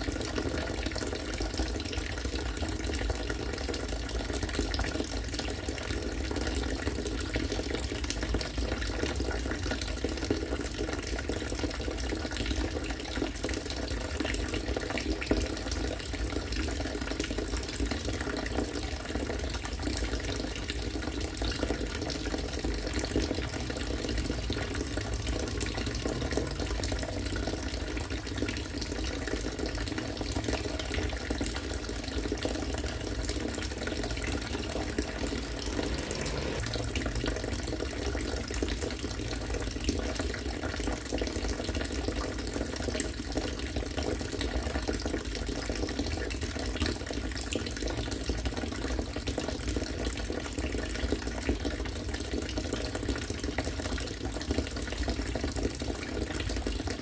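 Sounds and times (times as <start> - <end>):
water pouring from pipe: 0.0 - 57.0.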